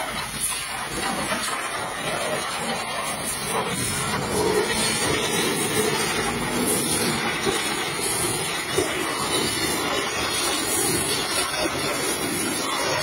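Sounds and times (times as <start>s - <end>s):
pressure washer spraying metal: 0.0s - 13.0s.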